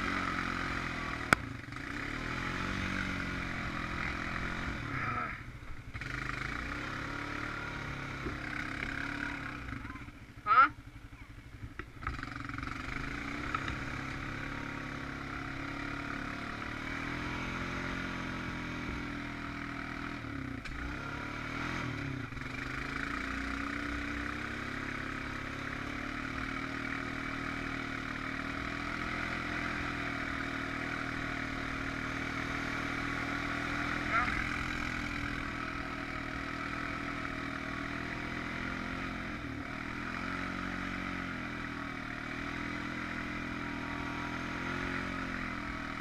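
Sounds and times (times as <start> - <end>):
atv engine running: 0.0 - 46.0.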